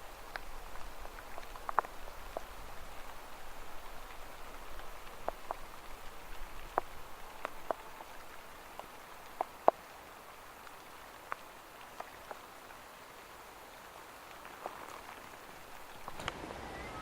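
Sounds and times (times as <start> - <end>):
raindrops dripping close by: 0.0 - 16.4
rain pattering: 0.0 - 16.7.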